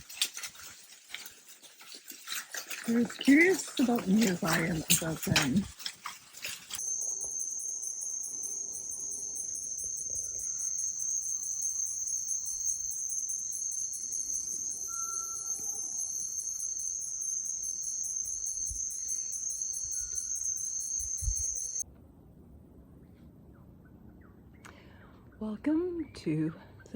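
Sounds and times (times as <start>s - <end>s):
jungle insects droning: 0.0s - 21.8s.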